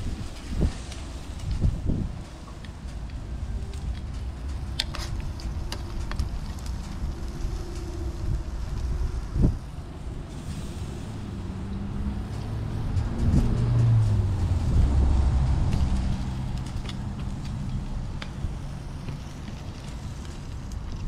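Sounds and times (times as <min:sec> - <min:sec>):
vehicle engine rumble: 0:00.0 - 0:21.0.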